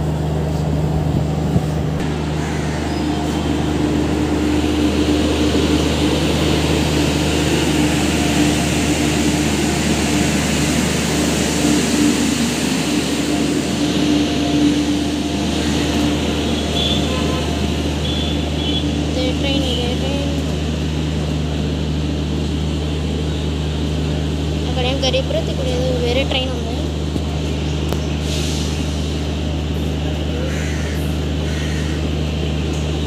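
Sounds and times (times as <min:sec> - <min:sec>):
arriving train rushing rumble: 0:00.0 - 0:33.0
train engines droning: 0:00.0 - 0:33.0.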